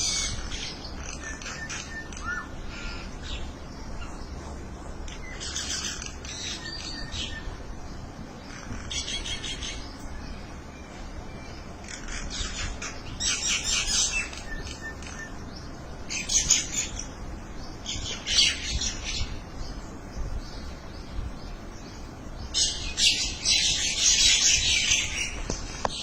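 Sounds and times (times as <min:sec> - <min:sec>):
flock of birds chattering: 0:00.0 - 0:26.0.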